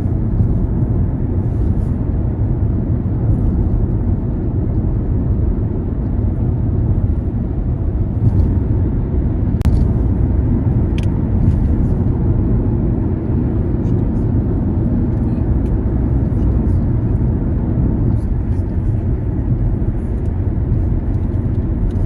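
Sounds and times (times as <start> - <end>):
car engine and tyre noise: 0.0 - 22.0.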